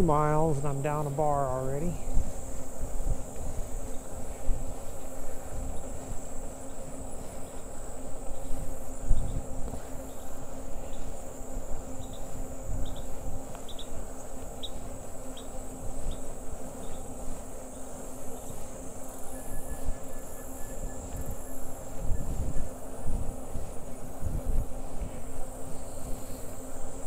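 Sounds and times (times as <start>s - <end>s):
high-pitched insect chorus: 0.0s - 27.0s
steady low hum: 0.0s - 27.0s
wind rumbling on microphone: 1.9s - 17.4s, 19.6s - 27.0s.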